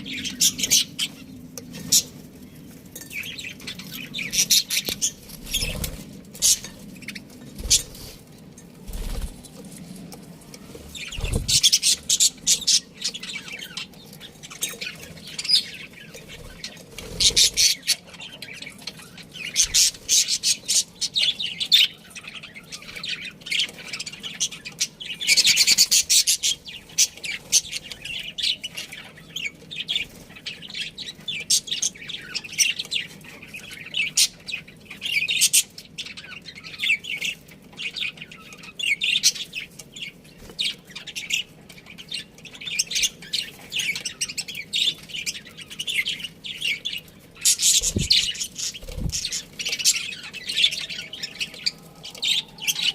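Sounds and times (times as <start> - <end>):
budgerigars chirping and chattering: 0.0 - 9.4, 10.6 - 52.9.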